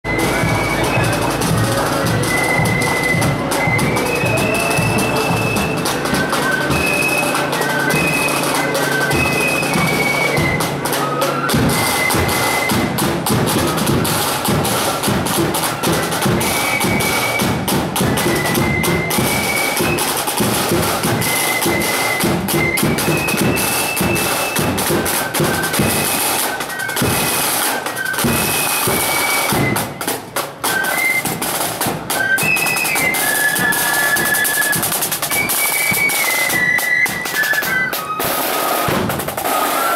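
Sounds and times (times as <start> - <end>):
high flute melody: 0.0 - 39.9
rapid snare drumming: 0.1 - 39.9.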